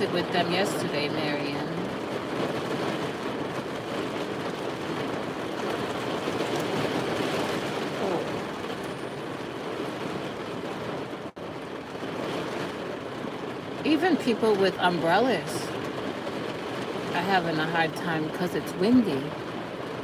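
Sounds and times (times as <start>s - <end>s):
heavy rain on vehicle roof: 0.0s - 20.0s.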